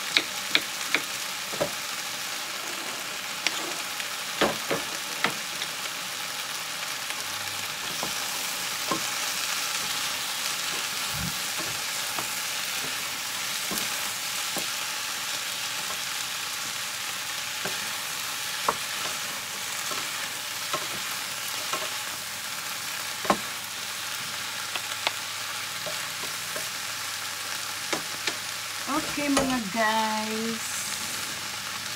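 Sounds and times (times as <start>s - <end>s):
vegetables sizzling in a frying pan: 0.0s - 31.9s.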